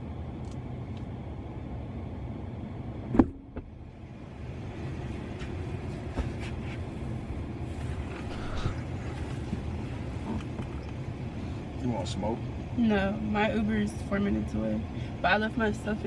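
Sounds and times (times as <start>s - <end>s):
parked car rumbling: 0.0s - 16.0s.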